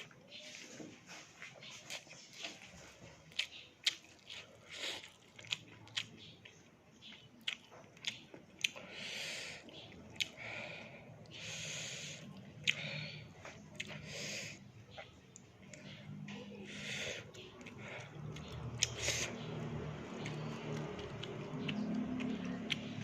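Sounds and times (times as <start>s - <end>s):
chewing and biting crisp food: 0.0s - 23.0s.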